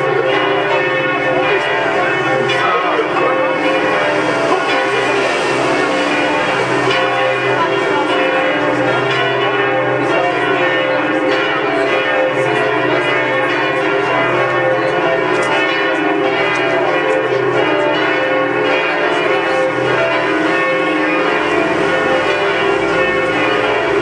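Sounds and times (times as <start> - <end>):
church bells pealing: 0.0 - 24.0.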